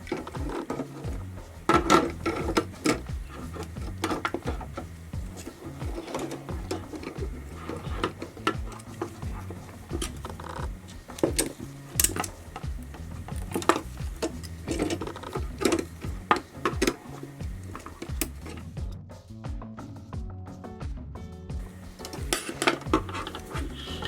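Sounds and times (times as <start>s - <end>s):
background music with bass: 0.0s - 24.0s.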